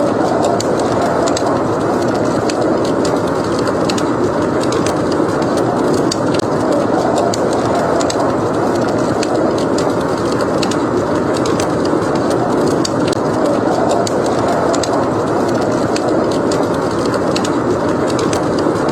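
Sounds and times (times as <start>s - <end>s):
rushing blizzard wind: 0.0s - 18.9s
wood fire crackling and popping: 0.0s - 18.9s.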